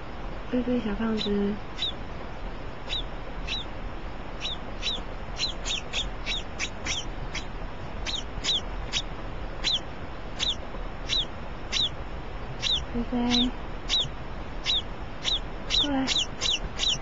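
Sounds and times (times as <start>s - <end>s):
bird chirping: 0.8s - 2.0s, 2.8s - 3.8s, 4.4s - 12.0s, 12.6s - 17.0s.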